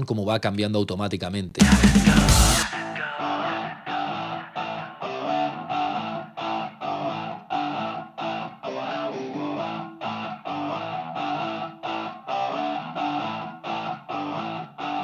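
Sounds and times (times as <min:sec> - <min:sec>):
talkbox electric guitar chords: 0:01.6 - 0:15.0.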